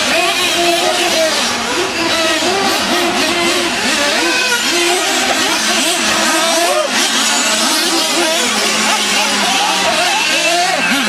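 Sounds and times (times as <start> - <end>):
small engines revving: 0.0 - 11.0.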